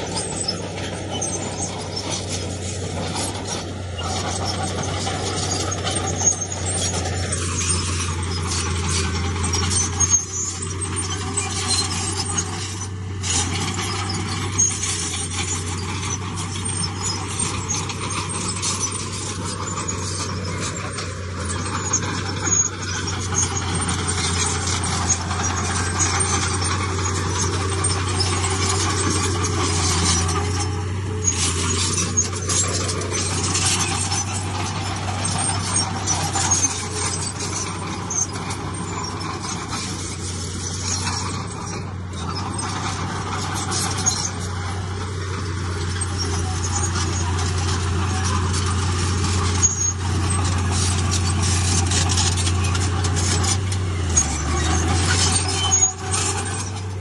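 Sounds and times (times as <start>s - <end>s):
blade scraping stone: 0.0s - 44.5s, 45.8s - 57.0s
bulldozer diesel engine running: 0.0s - 57.0s
steel tracks squealing and clattering: 0.0s - 57.0s.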